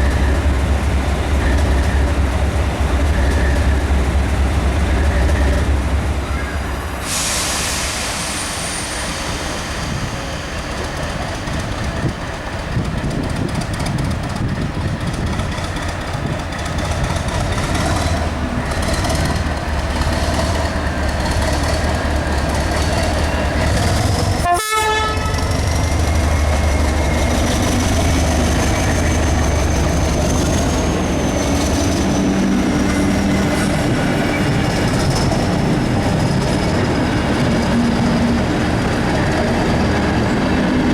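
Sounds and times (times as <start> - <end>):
train engine rumble: 0.0 - 40.9.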